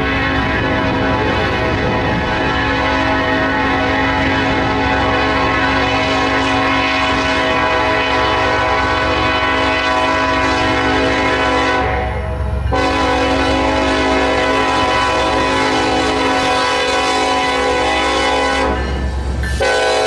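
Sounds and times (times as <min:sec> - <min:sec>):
locomotive air horn: 0:00.0 - 0:20.0
train rumble: 0:00.0 - 0:20.0.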